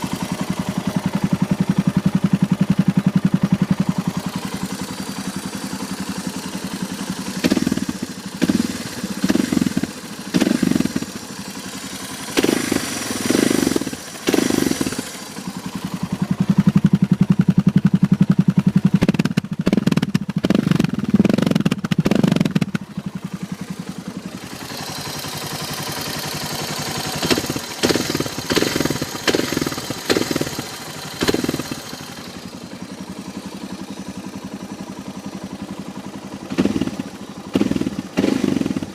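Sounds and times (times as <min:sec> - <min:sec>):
mechanical engine clatter: 0:00.0 - 0:38.9
motorcycle engine revving: 0:00.0 - 0:38.9.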